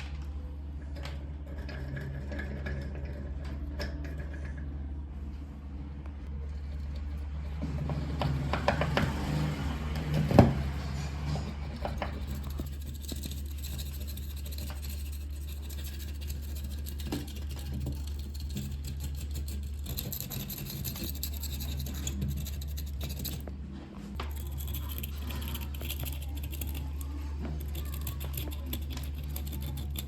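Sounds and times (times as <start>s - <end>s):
steady low hum: 0.0s - 30.0s
scratching and scraping on machine: 0.8s - 5.0s, 6.2s - 30.0s.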